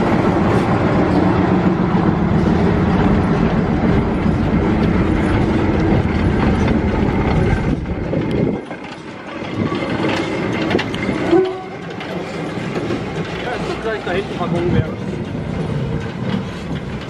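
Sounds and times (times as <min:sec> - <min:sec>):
train wheels clacking on rails: 0:00.0 - 0:17.0.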